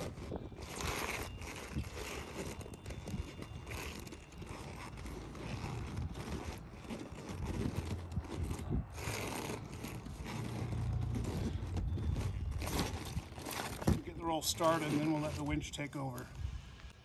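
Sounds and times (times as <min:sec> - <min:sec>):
vinyl rustling and scraping: 0:00.0 - 0:16.3.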